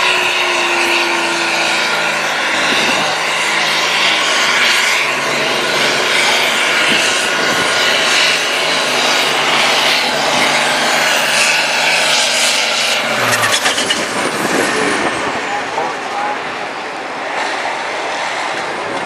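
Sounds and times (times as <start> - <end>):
tractor diesel engine at full load: 0.0 - 19.0.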